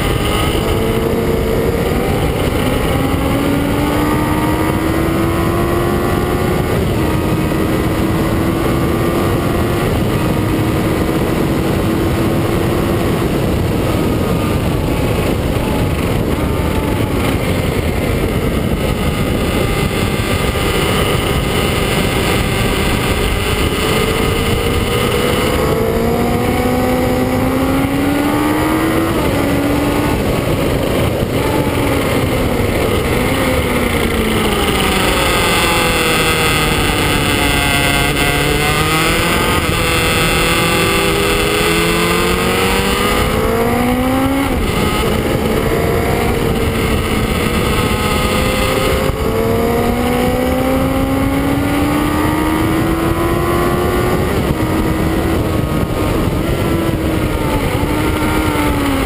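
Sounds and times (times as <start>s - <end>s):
motorcycle engine accelerating: 0.0s - 59.0s
wind noise: 0.0s - 59.0s.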